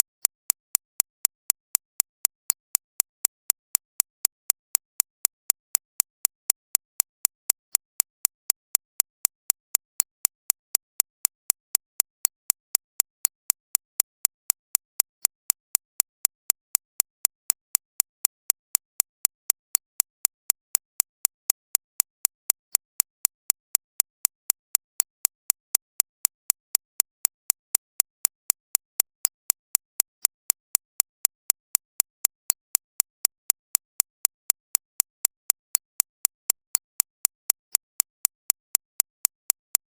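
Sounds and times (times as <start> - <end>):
sharp evenly spaced clicks: 0.0 - 39.9.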